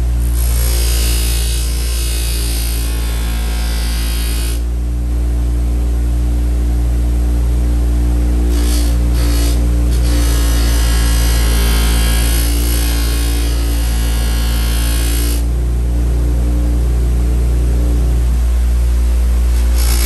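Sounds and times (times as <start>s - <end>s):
bench buffer humming: 0.0s - 20.0s.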